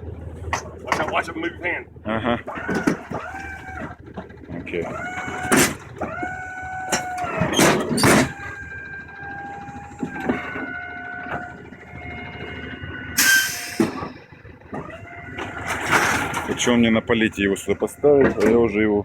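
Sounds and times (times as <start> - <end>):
mechanical whine: 0.6 - 19.0
metal clunks: 2.5 - 17.0, 18.0 - 18.9.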